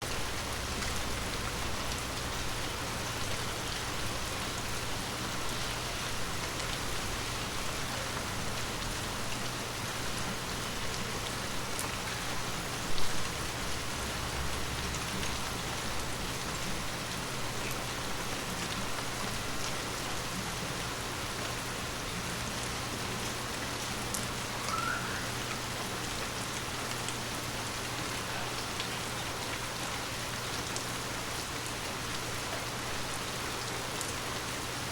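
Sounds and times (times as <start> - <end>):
rain falling on leaves: 0.0 - 34.9.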